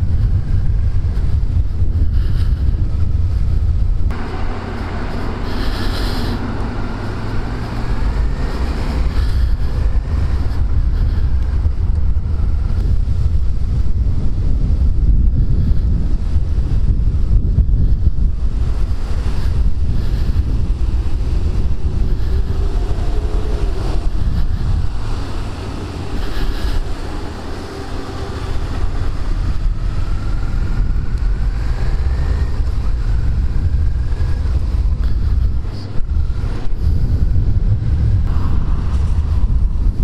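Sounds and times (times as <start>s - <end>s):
motorcycle engine rumble: 0.0s - 40.0s
tyres on wet road: 0.0s - 40.0s
wind buffeting microphone: 0.0s - 40.0s.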